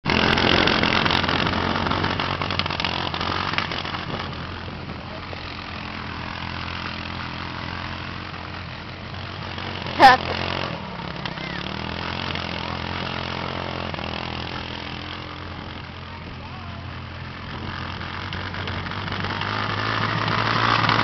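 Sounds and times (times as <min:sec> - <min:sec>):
go-kart engine drone: 0:00.0 - 0:21.0.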